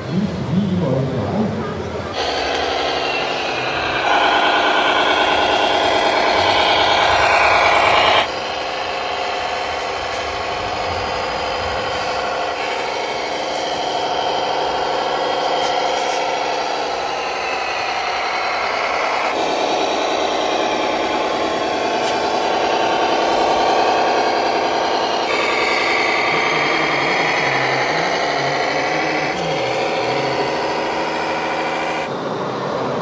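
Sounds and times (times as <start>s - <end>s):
model tractor motor drone: 2.1s - 33.0s.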